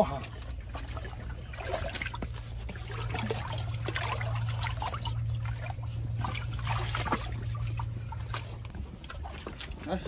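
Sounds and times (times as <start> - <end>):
low hum: 0.0 - 10.0
water trickling and splashing: 0.0 - 10.0.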